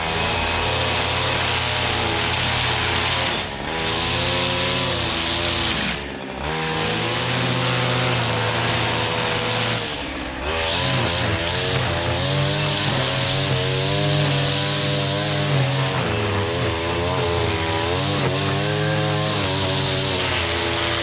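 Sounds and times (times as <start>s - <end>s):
small petrol engine running hard: 0.0s - 21.0s.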